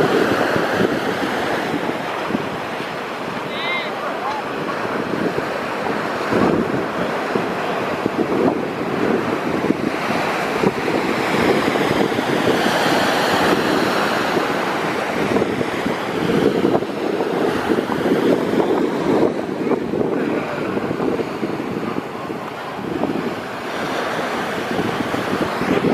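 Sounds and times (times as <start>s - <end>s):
ocean waves breaking: 0.0s - 25.9s
wind buffeting microphone: 0.0s - 25.9s.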